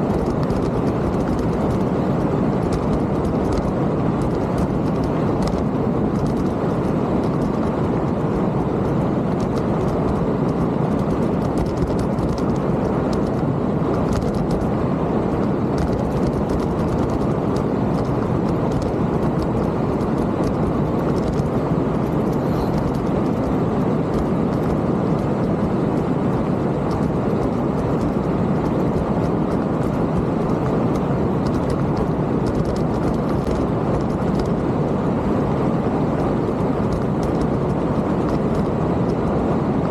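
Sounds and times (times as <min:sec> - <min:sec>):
faint clicks and rattles: 0:00.0 - 0:14.7, 0:15.3 - 0:34.7, 0:35.5 - 0:39.9
wind and tyre rumble: 0:00.0 - 0:39.9.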